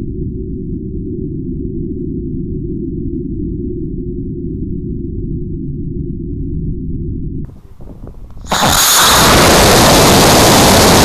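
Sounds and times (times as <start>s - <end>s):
deep muffled rocket rumble: 0.0s - 11.0s.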